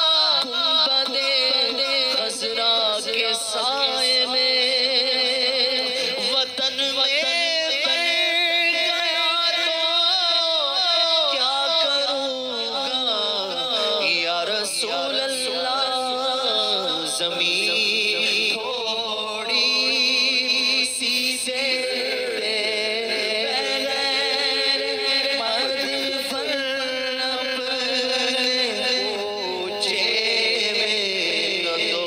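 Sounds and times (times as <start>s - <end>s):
man singing devotional song: 0.0s - 32.0s.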